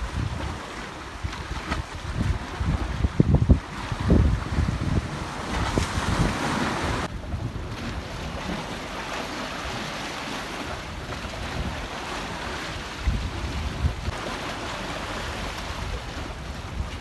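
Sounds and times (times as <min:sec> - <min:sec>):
wind buffeting microphone: 0:00.0 - 0:08.7, 0:10.6 - 0:17.0
waves washing against concrete: 0:00.0 - 0:17.0.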